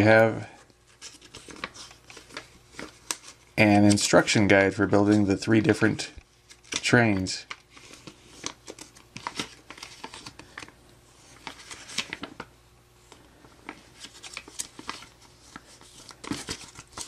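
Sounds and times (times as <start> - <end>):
paper pages rustling: 0.9 - 12.5, 13.1 - 17.0.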